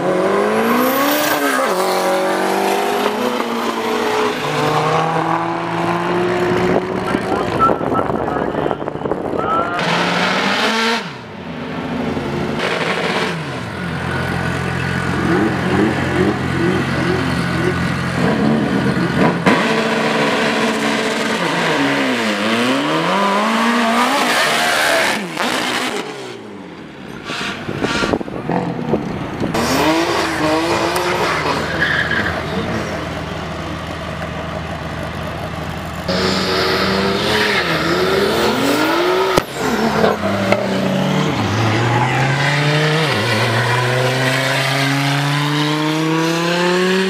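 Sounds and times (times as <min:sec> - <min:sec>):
car engines revving: 0:00.0 - 0:47.0.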